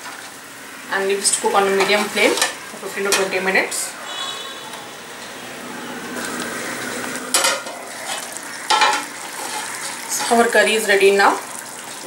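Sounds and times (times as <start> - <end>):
curry sizzling in a pot: 0.0 - 12.0.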